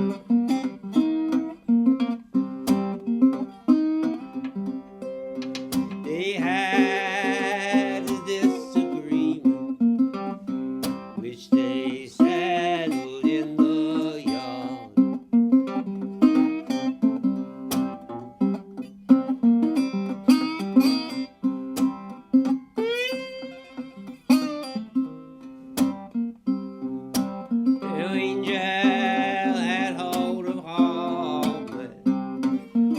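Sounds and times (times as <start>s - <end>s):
slide guitar playing blues: 0.0s - 32.9s.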